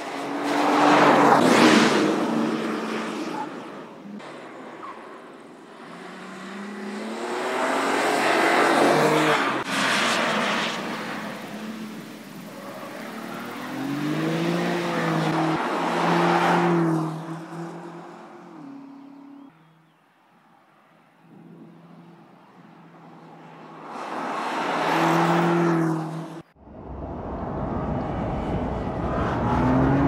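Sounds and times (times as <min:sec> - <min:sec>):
race car engine passing: 0:00.0 - 0:19.8, 0:21.3 - 0:30.0.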